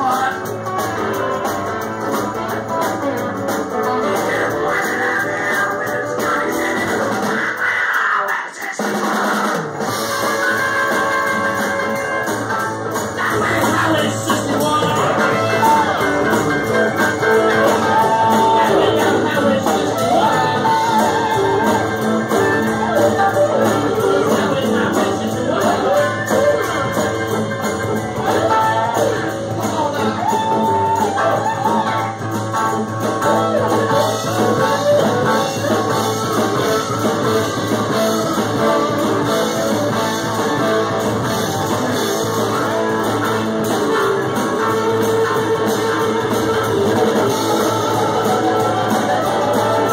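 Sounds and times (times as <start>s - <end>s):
man singing: 0.0s - 1.5s, 3.7s - 49.9s
live blues-rock band playing: 0.0s - 8.1s, 8.7s - 49.9s.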